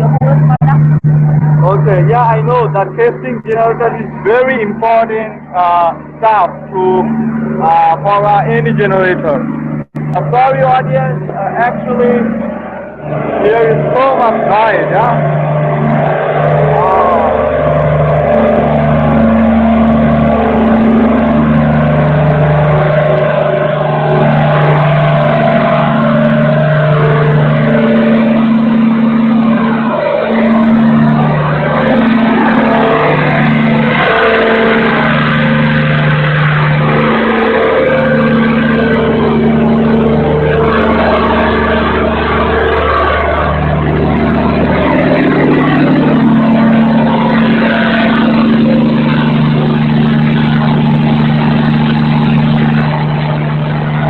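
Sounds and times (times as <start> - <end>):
diesel generators droning: 0.0 - 54.0
low humming tones: 0.0 - 54.0.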